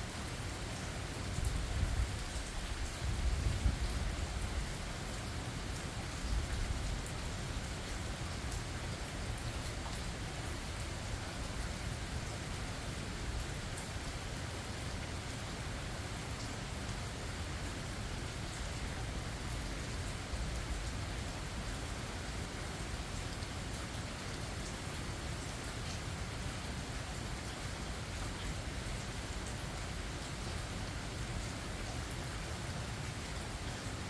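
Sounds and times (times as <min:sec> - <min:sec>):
rain falling in forest: 0:00.0 - 0:34.0.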